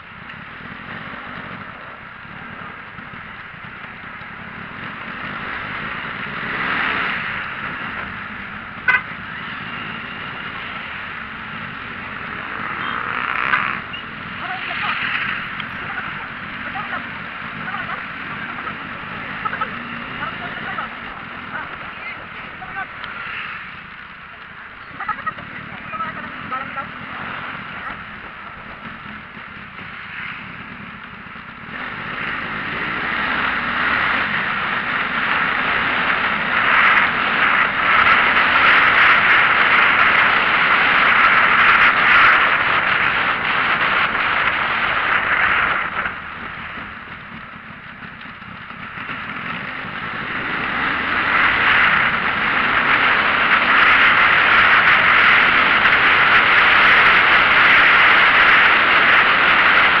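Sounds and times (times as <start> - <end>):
vehicle road and wind noise: 0.0 - 60.0.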